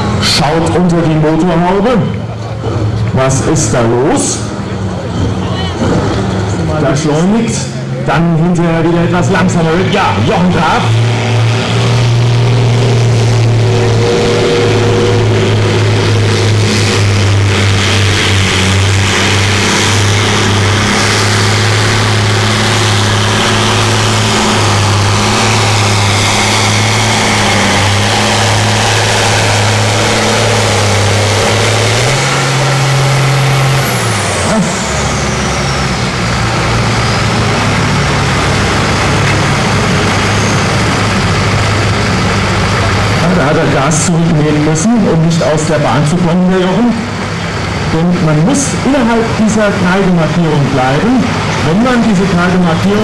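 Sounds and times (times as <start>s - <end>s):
tractor engine under load: 0.0s - 53.0s.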